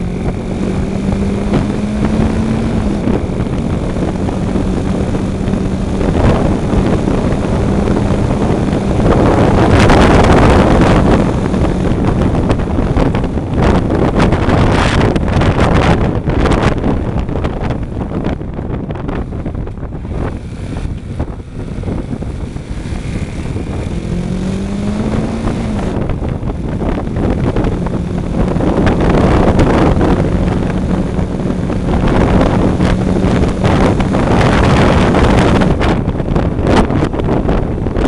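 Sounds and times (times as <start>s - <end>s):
motorcycle engine: 0.0s - 38.0s
wind buffeting microphone: 0.0s - 38.0s.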